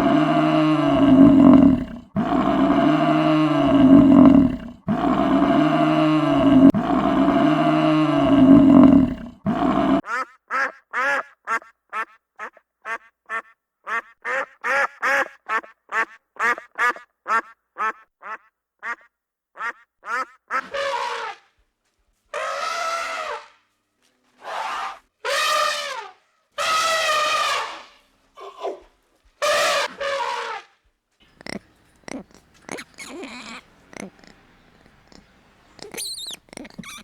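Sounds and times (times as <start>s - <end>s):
farm animal calling: 0.0s - 19.0s, 19.6s - 21.4s, 22.4s - 23.5s, 24.4s - 27.9s, 31.2s - 37.0s.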